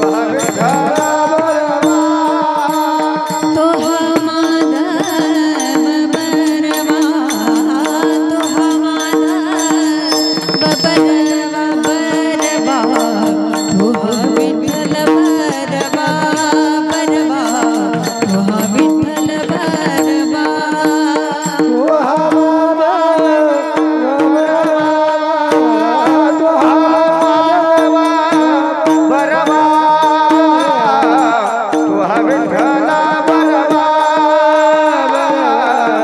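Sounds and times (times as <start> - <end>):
devotional singing: 0.0 - 36.0
tabla: 0.0 - 36.0.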